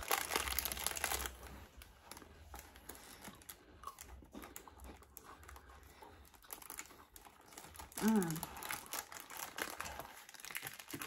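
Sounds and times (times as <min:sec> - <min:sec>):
snack clicks and rustling: 0:00.0 - 0:11.0.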